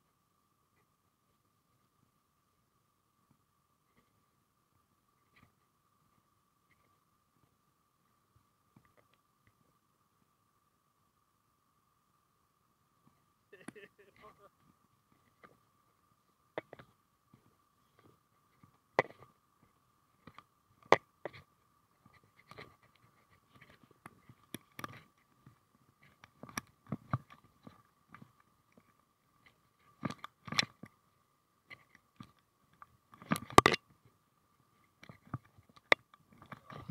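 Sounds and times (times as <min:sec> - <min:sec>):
faint high whine: 0:00.0 - 0:36.9.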